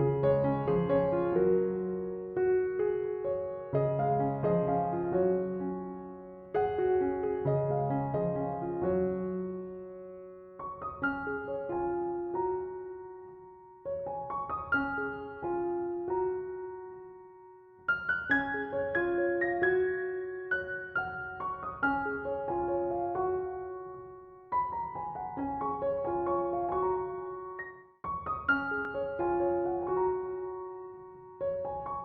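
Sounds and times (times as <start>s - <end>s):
gentle solo piano: 0.0s - 32.0s.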